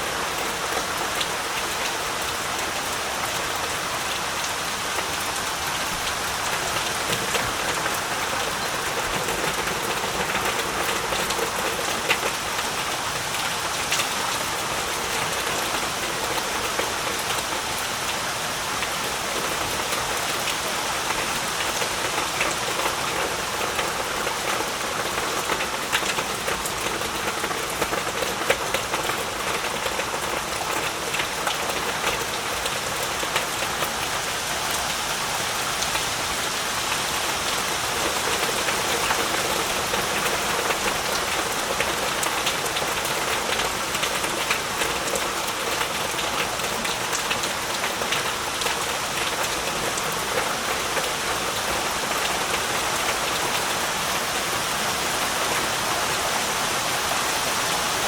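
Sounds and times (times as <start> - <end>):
heavy rain falling: 0.0 - 58.0
raindrops spattering on surfaces: 0.0 - 58.0.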